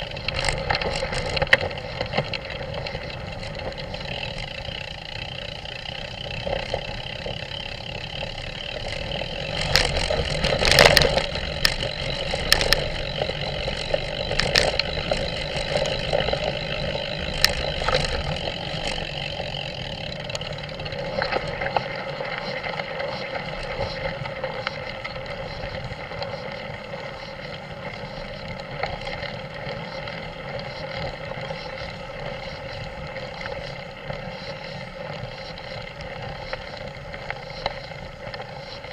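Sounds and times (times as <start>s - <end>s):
knocks and rattles over ruts: 0.0s - 38.9s.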